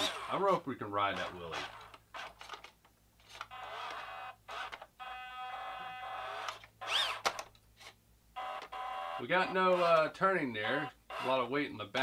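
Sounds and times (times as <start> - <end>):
toy truck motor whining: 0.0 - 2.6, 3.2 - 7.5, 8.4 - 11.5.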